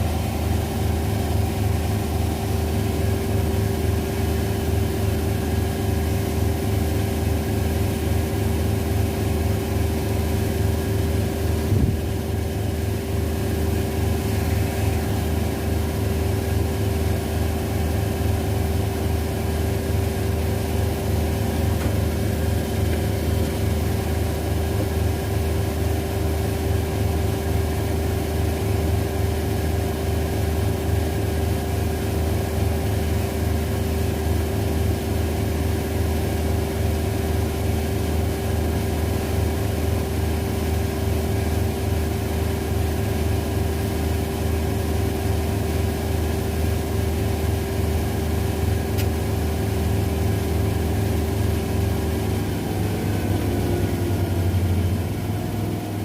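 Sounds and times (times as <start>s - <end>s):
washing machines spinning: 0.0s - 56.0s.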